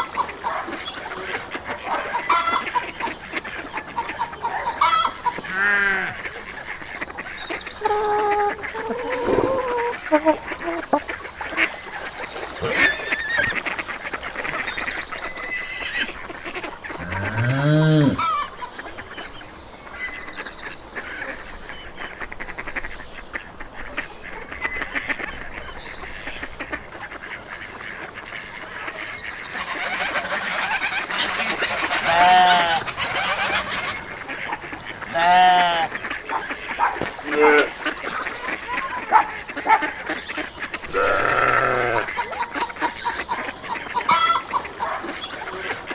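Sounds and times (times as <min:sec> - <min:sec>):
geese honking: 0:00.0 - 0:19.1, 0:22.0 - 0:45.9
poultry chatter: 0:00.0 - 0:45.9.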